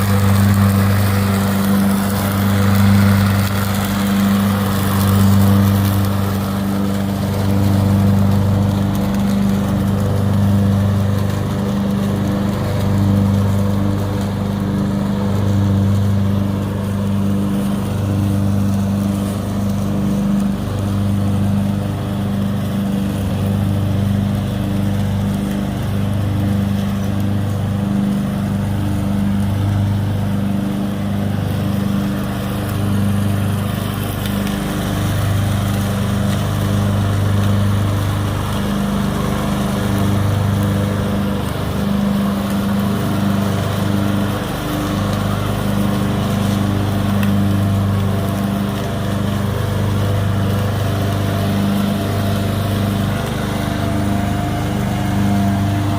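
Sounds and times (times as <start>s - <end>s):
lawn mower engine droning: 0.0s - 55.9s.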